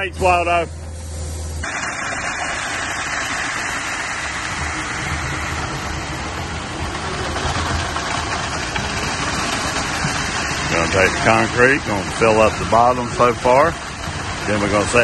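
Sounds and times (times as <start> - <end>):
diesel truck engine running: 0.0 - 15.0
concrete pouring down chute: 1.6 - 15.0.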